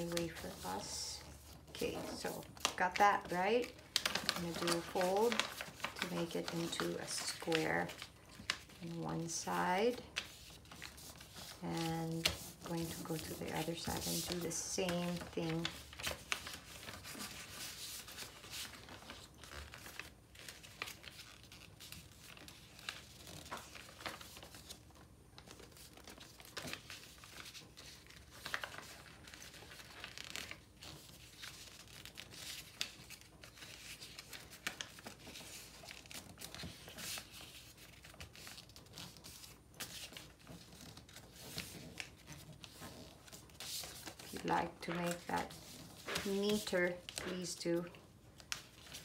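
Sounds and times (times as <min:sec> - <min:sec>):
paper rustling and crinkling: 0:00.0 - 0:49.0.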